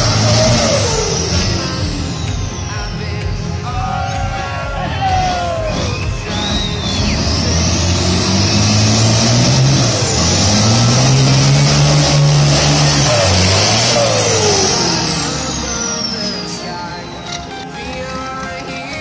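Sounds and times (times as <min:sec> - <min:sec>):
diesel engine revving high: 0:00.0 - 0:18.0
tyres spinning and screeching: 0:00.0 - 0:19.0.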